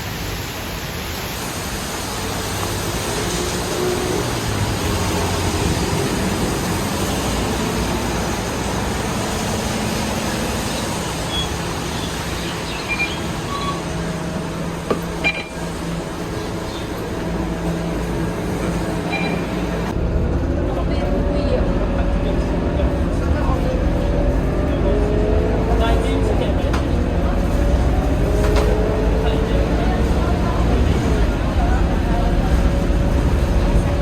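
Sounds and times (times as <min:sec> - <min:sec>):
bus engine drone: 0:00.0 - 0:34.0
road noise: 0:00.0 - 0:34.0.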